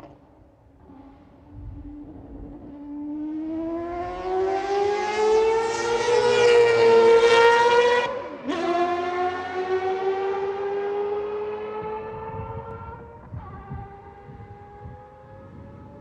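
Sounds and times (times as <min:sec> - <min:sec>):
rotary engine accelerating: 0:00.8 - 0:16.0.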